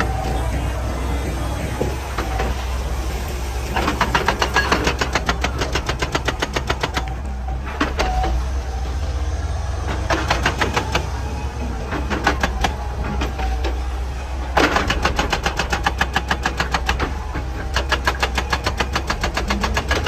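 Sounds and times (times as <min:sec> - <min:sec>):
diesel engine running: 0:00.0 - 0:20.0
hydraulic breaker hammering rock: 0:00.0 - 0:20.0.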